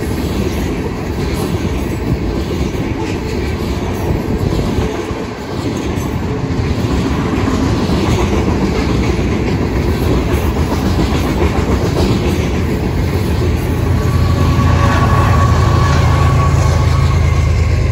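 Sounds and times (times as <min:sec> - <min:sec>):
freight train wheels rumbling: 0:00.0 - 0:17.9.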